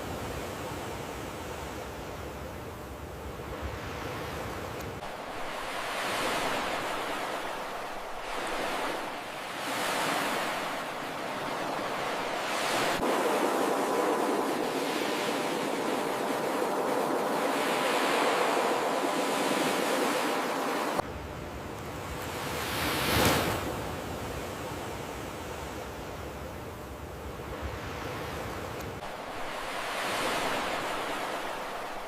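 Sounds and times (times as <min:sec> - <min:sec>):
ocean surf on shore: 0:00.0 - 0:26.4, 0:27.3 - 0:32.0.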